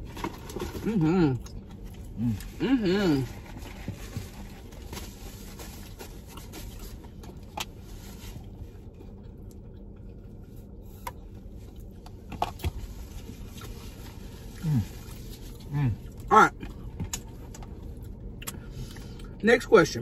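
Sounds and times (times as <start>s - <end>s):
low hum in a car cabin: 0.0s - 20.0s.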